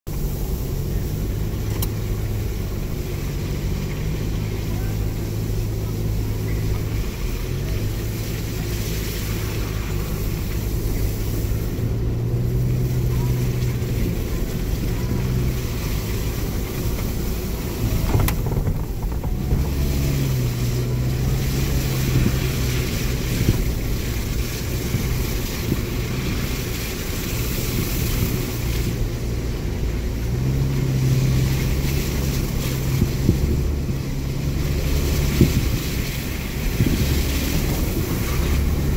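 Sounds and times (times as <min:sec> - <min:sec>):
car engine running: 0:00.0 - 0:38.9
tyres on snow: 0:00.1 - 0:38.9.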